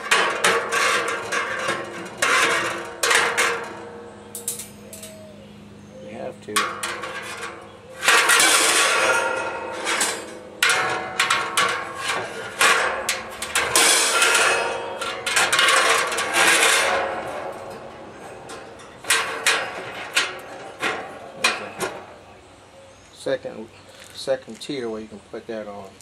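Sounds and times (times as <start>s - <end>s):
metal grate knocking on barrel: 0.0s - 5.2s, 6.4s - 22.2s
metal grate scraping: 0.0s - 5.4s, 6.1s - 22.5s.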